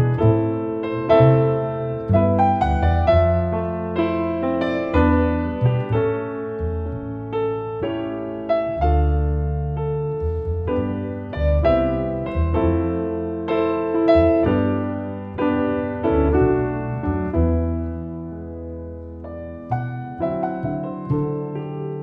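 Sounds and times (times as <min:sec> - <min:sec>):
double bass notes: 0:00.0 - 0:22.0
piano playing: 0:00.0 - 0:22.0.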